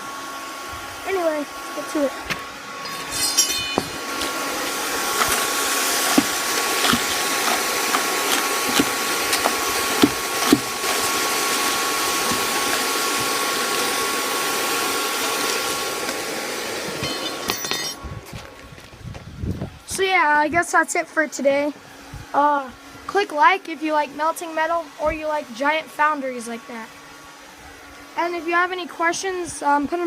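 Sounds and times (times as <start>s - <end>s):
hair dryer blowing air: 0.0s - 18.0s, 21.8s - 28.2s.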